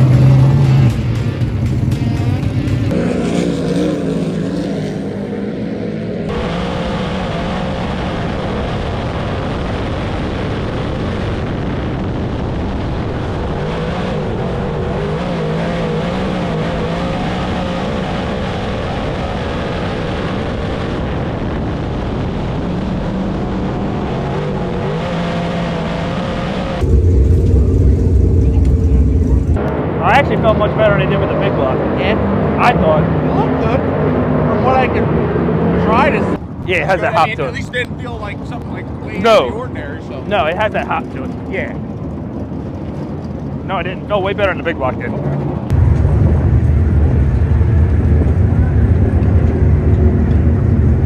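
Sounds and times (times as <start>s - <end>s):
race car engine: 0.0s - 51.0s.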